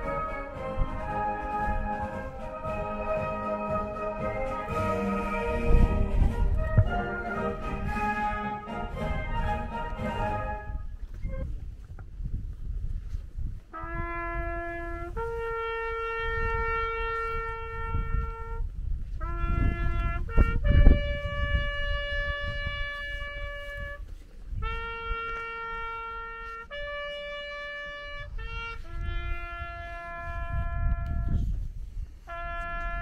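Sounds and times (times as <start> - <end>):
solo trumpet call: 0.0 - 11.6, 13.7 - 31.6, 32.2 - 33.0
wind rumble on microphone: 0.0 - 33.0.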